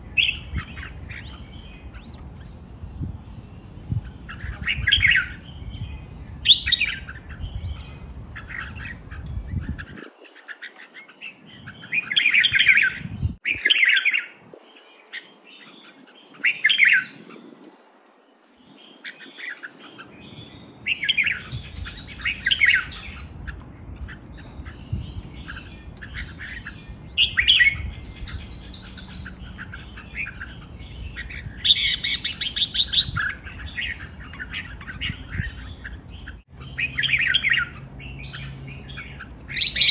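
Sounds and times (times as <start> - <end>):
birds chirping song: 0.0 - 39.9.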